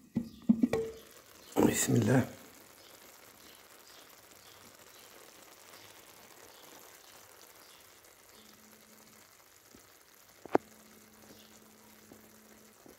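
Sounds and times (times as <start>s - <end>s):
food sizzling and crackling: 0.0s - 12.9s.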